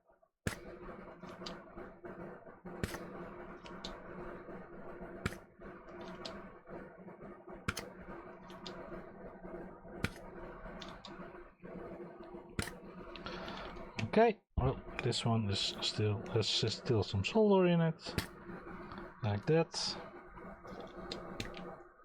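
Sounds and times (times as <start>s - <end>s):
steady hum: 0.5s - 22.0s.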